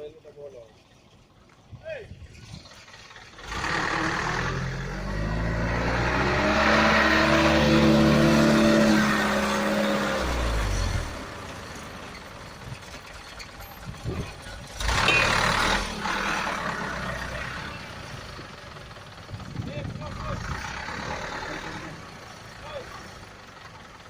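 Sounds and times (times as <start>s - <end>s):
truck engine revving: 2.3s - 24.0s.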